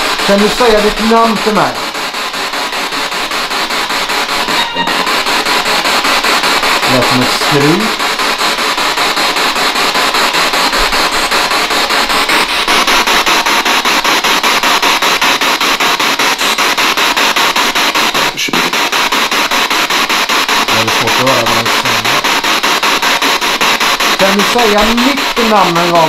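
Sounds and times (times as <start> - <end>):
chopped radio static: 0.0 - 26.0
radio sound fragments: 0.0 - 26.0.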